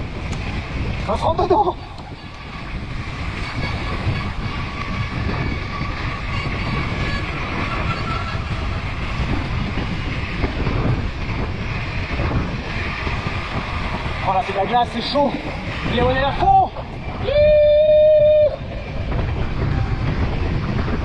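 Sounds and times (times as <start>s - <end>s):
bike rattling: 0.0s - 21.0s
bike tyre noise on snow: 0.0s - 21.0s
wind rushing on microphone: 0.0s - 21.0s.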